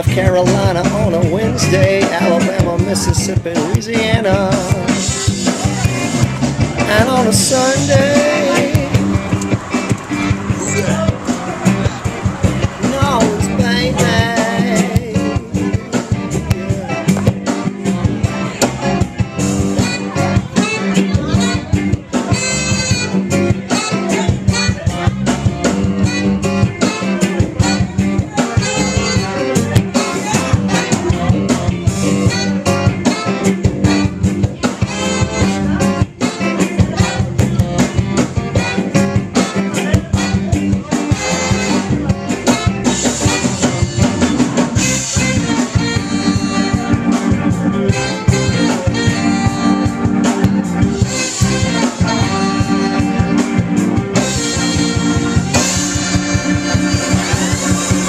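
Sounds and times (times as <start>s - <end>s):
drum kit beat: 0.0s - 58.0s
instrumental band music: 0.0s - 58.0s.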